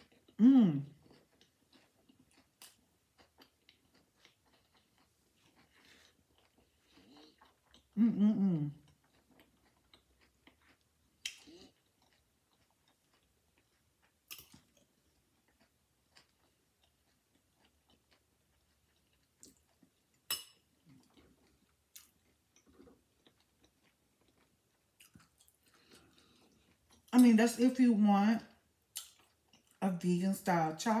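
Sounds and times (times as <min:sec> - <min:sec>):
chewing crunchy taco: 0:00.0 - 0:27.2, 0:28.5 - 0:29.8.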